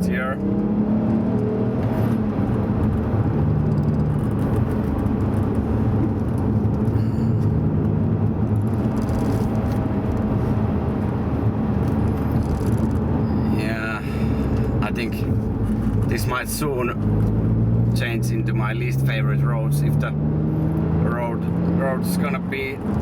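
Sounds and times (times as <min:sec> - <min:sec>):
car engine running: 0:00.0 - 0:23.0
tyre and road noise: 0:00.0 - 0:23.0.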